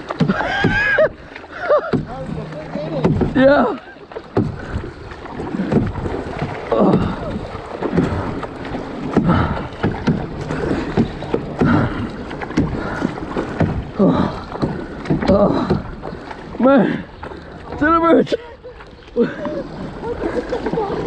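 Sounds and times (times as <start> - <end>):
kayak paddle strokes splashing: 0.0 - 21.0.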